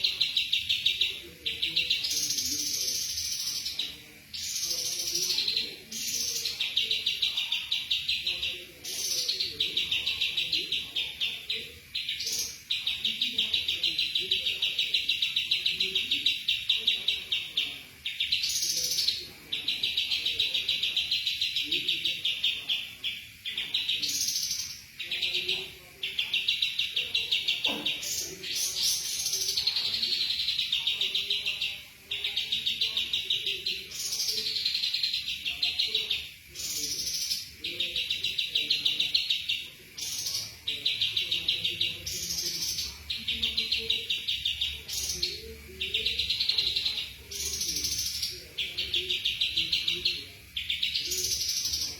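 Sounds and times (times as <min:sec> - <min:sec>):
songbird singing trills: 0:00.0 - 0:51.9.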